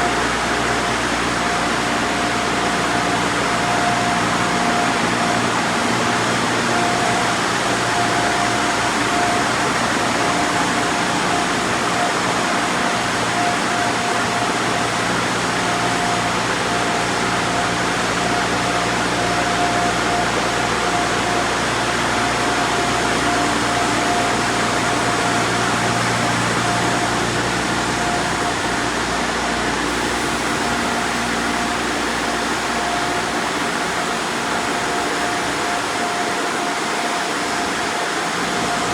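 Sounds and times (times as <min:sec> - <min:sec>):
car wash running: 0:00.0 - 0:38.9.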